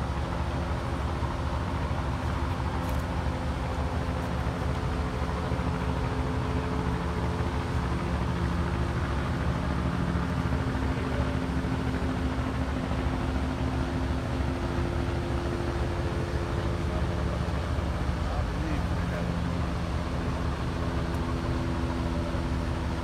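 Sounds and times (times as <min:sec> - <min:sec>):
constant rushing noise: 0:00.0 - 0:23.0
engine drone: 0:00.0 - 0:23.0.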